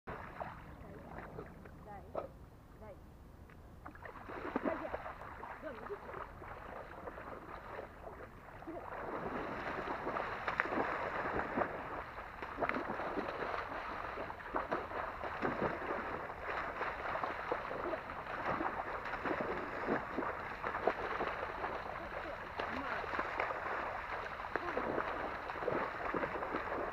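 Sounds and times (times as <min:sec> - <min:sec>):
dog splashing through water: 0:00.1 - 0:02.0, 0:03.8 - 0:26.9.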